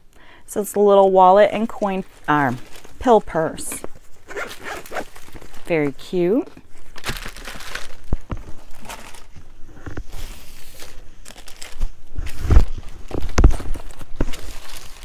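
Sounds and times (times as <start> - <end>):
packaging crinkling and rustling: 1.6 - 15.0.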